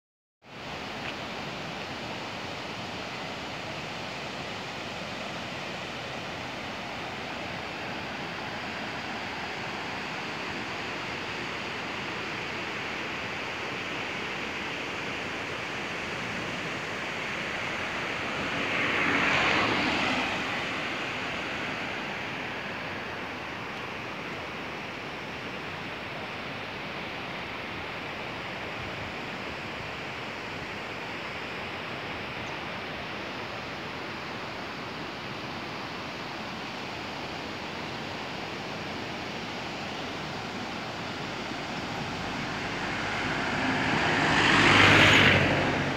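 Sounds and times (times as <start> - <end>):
river rapids rushing: 0.5 - 45.9.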